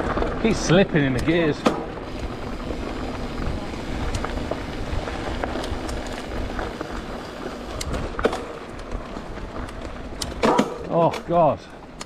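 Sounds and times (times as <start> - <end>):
bike low rumble: 0.0 - 12.0
bike chain skipping clicks: 0.9 - 12.0.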